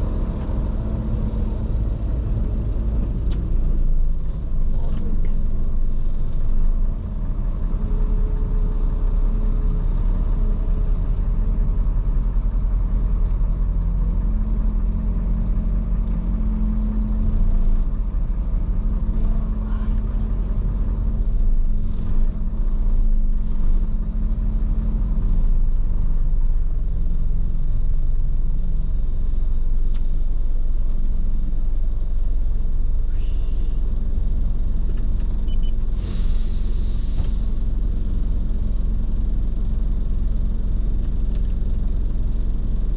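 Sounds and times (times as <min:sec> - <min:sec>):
road rumble: 0:00.0 - 0:42.9
truck engine drone: 0:00.0 - 0:42.9.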